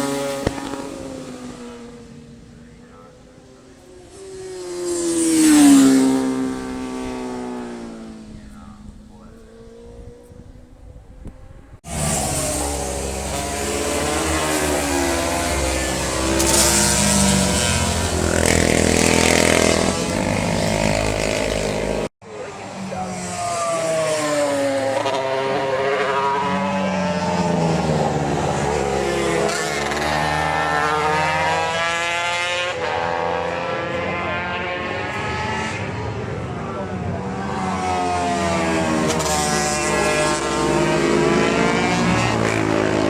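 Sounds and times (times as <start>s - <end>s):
motorcycles passing at speed: 0.0s - 43.0s.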